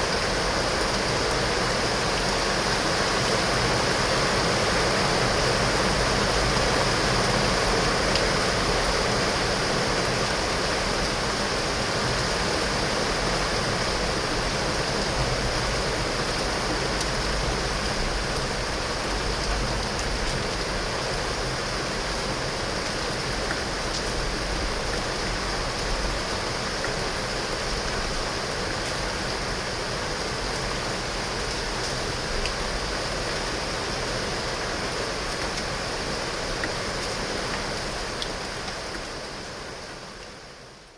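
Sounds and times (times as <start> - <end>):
heavy rain on window glass: 0.0 - 40.9.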